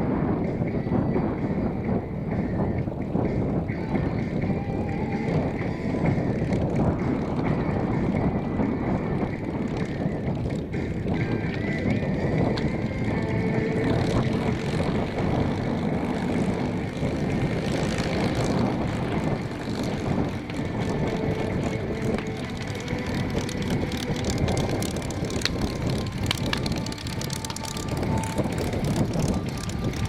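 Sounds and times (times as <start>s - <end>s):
aircraft engine running: 0.0s - 30.0s.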